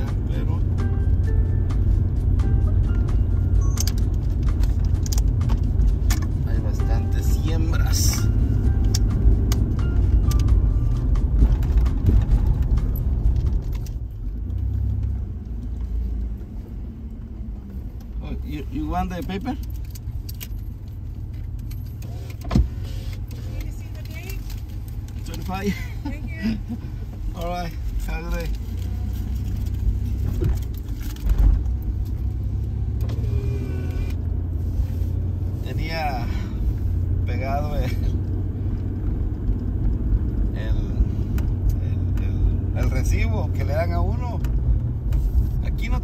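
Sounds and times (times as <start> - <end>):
car cabin low rumble: 0.0 - 46.0.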